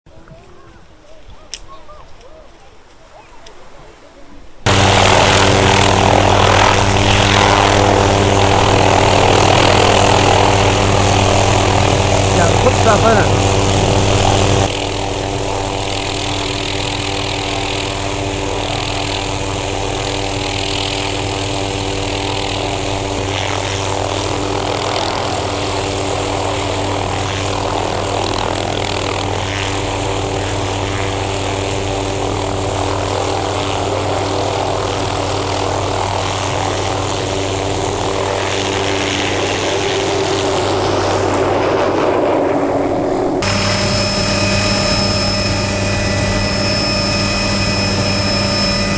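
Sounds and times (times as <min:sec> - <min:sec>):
helicopter rotor drone: 0:04.6 - 0:48.9.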